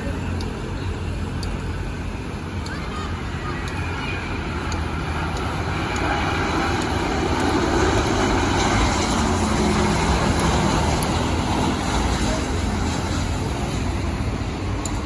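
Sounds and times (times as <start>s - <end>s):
jet engines passing: 0.0s - 15.0s.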